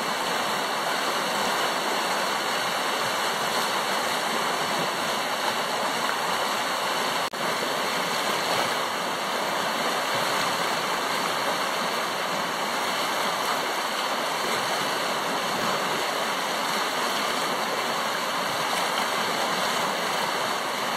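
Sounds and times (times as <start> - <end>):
river rushing over rapids: 0.0 - 20.9.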